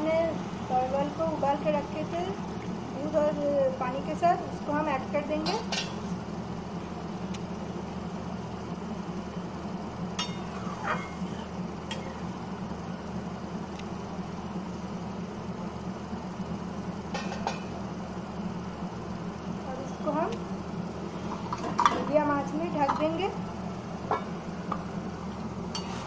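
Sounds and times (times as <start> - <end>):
low hum and rumble: 0.0 - 26.0.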